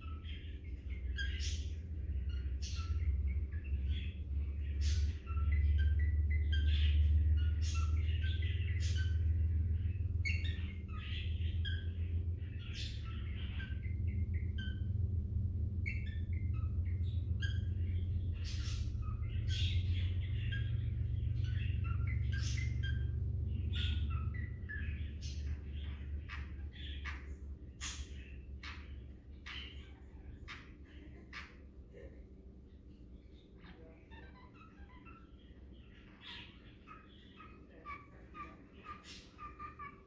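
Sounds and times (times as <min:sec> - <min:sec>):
parakeet chirping and squeaking: 0:00.0 - 0:31.8, 0:32.7 - 0:40.0
low hum: 0:00.0 - 0:40.0.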